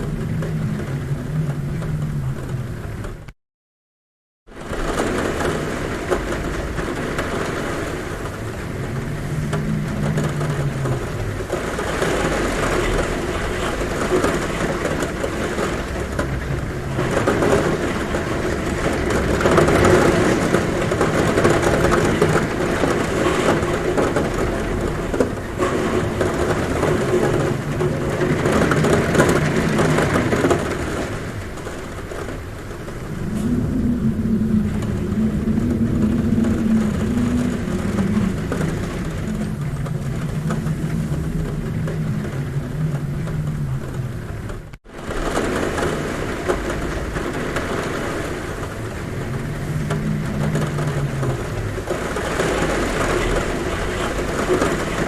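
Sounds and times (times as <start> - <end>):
heavy rain on a roof: 0.0 - 3.4, 4.4 - 55.0
low wind hum: 4.5 - 55.0.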